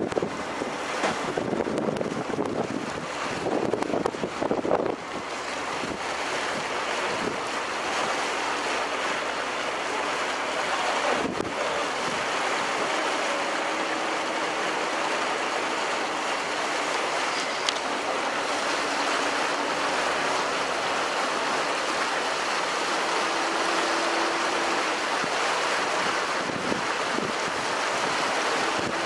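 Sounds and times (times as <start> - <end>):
wind on microphone: 0.0 - 9.2, 11.0 - 21.8, 22.4 - 29.0
water rushing: 0.0 - 29.0.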